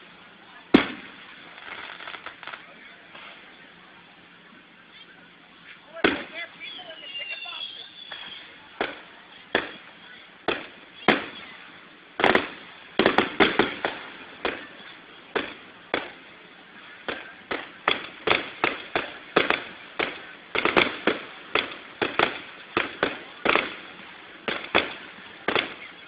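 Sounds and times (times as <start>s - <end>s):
fireworks bangs echoing: 0.7s - 3.4s, 6.0s - 26.0s.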